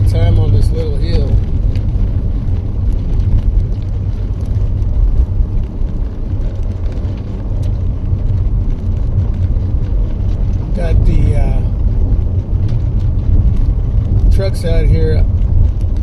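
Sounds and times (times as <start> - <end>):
tires rumbling on snow: 0.0 - 16.0.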